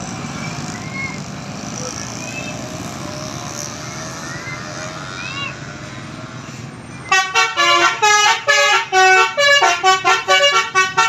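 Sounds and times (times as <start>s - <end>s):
passing vehicle engines and tyres: 0.0s - 11.0s.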